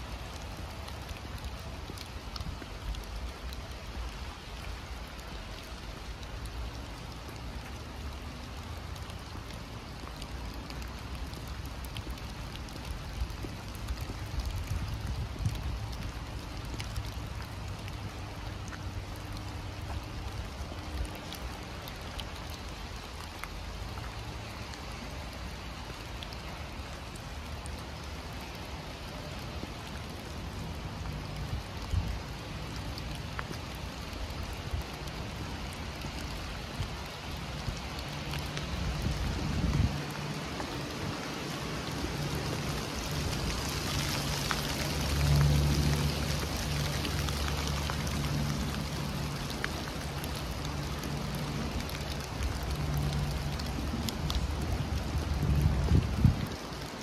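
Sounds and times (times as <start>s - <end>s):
heavy rain in a forest: 0.0s - 57.0s.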